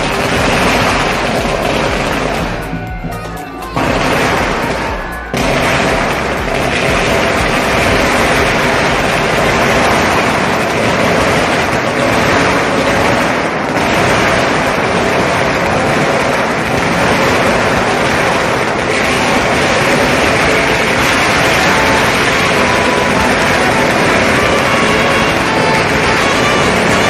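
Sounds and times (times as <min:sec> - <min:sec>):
firecrackers crackling: 0:00.0 - 0:27.0
music playing: 0:00.0 - 0:27.0.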